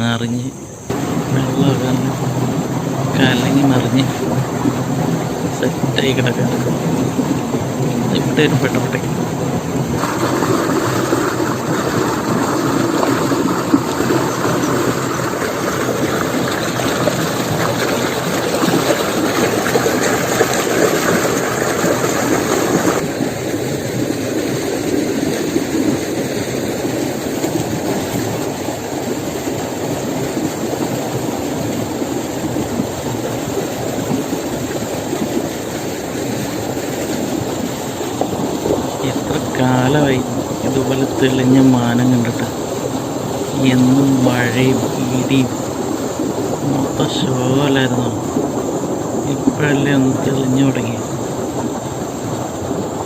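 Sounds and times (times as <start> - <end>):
engine-like running noise: 0.0 - 53.0.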